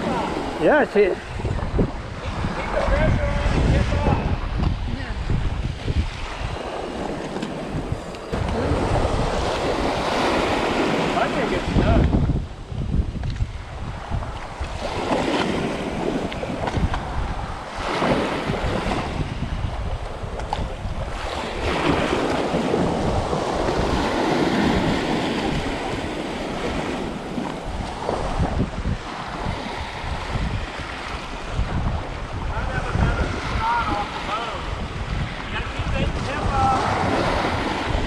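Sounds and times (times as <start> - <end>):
small waves washing: 0.0 - 38.0
wind rumble on microphone: 0.0 - 38.0.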